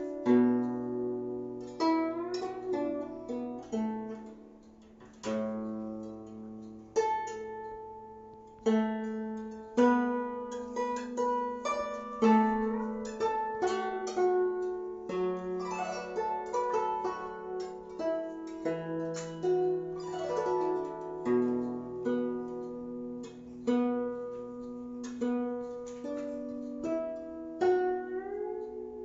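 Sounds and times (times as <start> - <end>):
plucked zither notes: 0.0 - 29.0.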